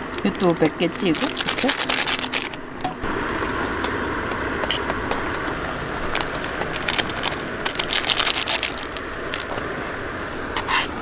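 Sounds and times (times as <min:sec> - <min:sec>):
gas stove burner hissing: 0:00.0 - 0:11.0.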